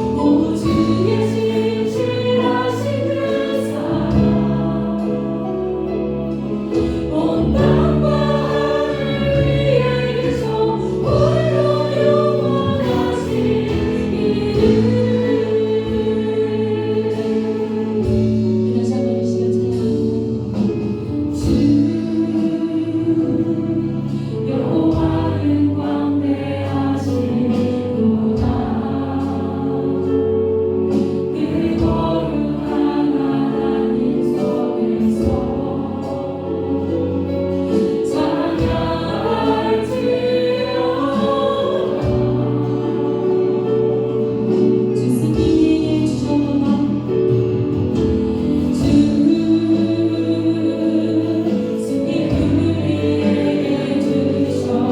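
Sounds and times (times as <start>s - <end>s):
band accompaniment: 0.0s - 54.9s
bass notes: 0.0s - 54.9s
group singing in unison: 0.0s - 54.9s
percussion strokes: 0.0s - 54.9s.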